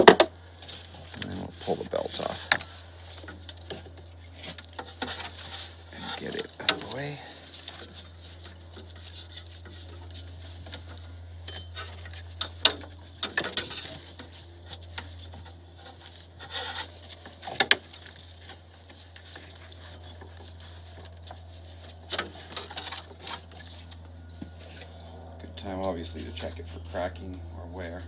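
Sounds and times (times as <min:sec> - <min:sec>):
steady low hum: 0:00.0 - 0:28.0
rubber belts rubbing and rustling: 0:00.6 - 0:24.0.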